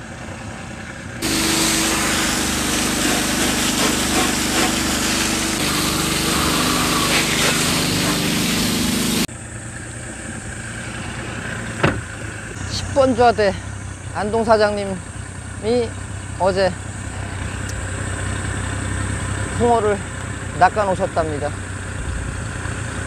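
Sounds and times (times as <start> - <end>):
idling motor hum: 0.0 - 23.0
outboard motor running fast: 0.0 - 23.0.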